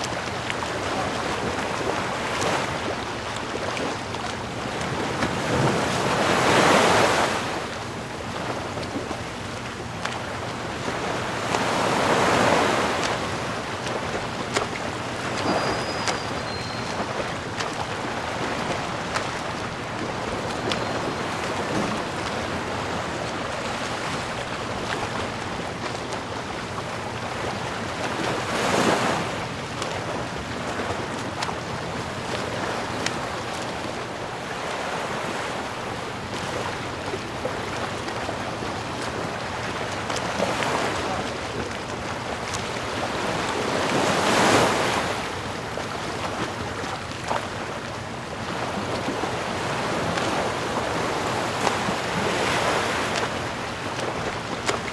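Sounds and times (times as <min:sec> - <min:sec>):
ocean waves washing: 0:00.0 - 0:54.9
waves breaking: 0:00.0 - 0:54.9.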